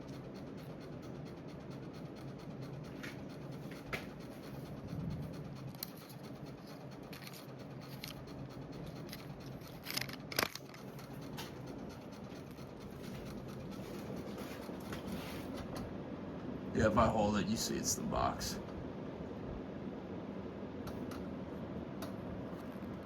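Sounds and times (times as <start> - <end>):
ceiling fan clicks: 0.0 - 19.0, 20.7 - 23.0
ceiling fan humming: 0.0 - 23.0.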